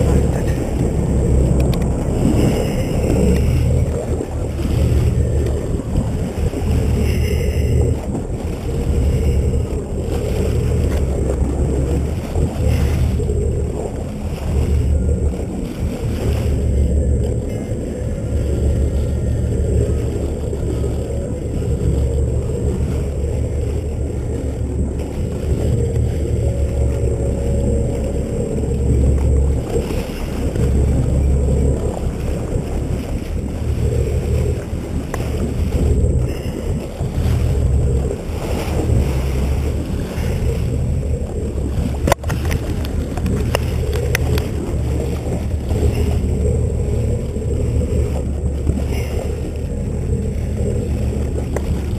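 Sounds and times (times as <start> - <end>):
boat engine rumble: 0.0 - 51.9
water rushing along hull: 0.0 - 51.9
wind buffeting microphone: 0.0 - 51.9.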